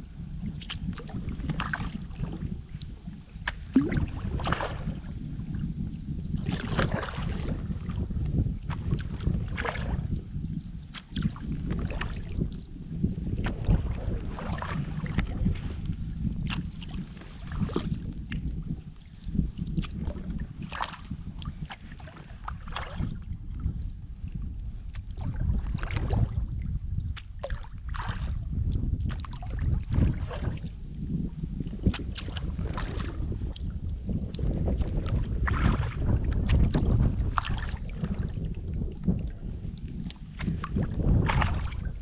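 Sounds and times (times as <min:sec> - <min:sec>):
steady low rumble: 0:00.0 - 0:42.0
kayak paddle splashing: 0:00.5 - 0:10.2, 0:10.8 - 0:31.0, 0:31.6 - 0:42.0.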